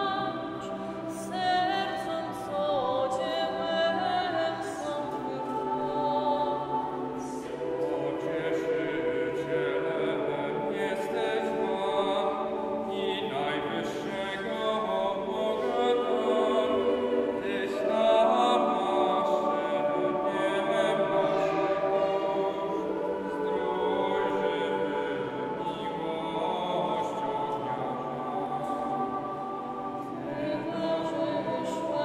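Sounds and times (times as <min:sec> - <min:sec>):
mixed choir singing unaccompanied: 0:00.0 - 0:32.0.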